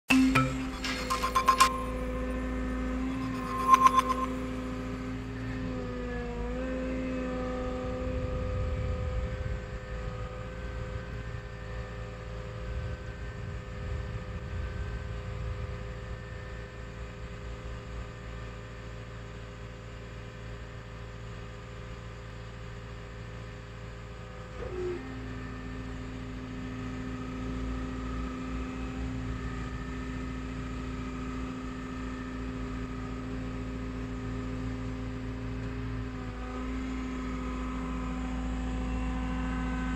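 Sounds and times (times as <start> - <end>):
excavator engine droning: 0.0 - 39.9
hydraulic whine: 0.1 - 39.9.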